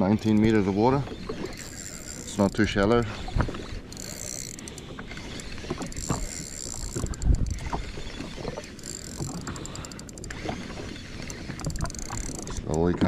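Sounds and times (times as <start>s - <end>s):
water noise: 0.0s - 13.0s
wind: 0.0s - 13.0s
fishing reel whirring click: 0.2s - 12.9s.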